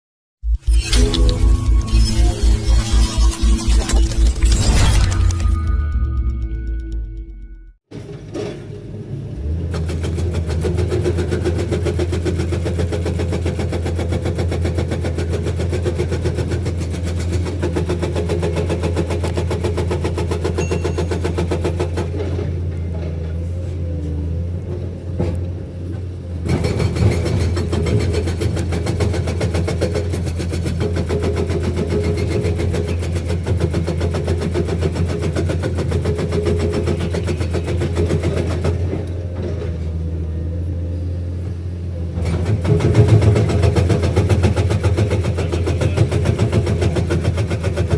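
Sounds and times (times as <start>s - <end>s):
excavator diesel engine running: 8.2s - 47.9s.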